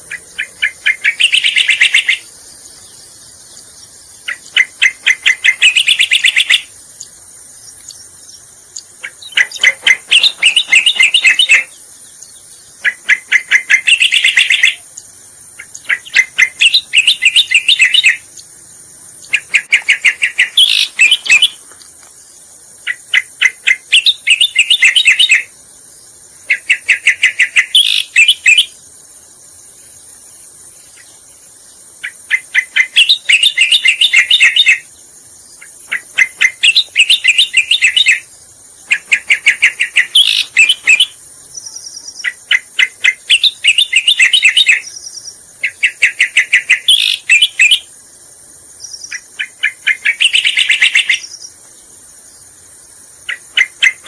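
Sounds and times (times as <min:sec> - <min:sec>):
bird chattering song: 0:00.0 - 0:21.7, 0:22.8 - 0:28.8, 0:30.3 - 0:48.0, 0:48.7 - 0:52.6, 0:53.2 - 0:54.0
high insect-like hum: 0:00.0 - 0:54.0.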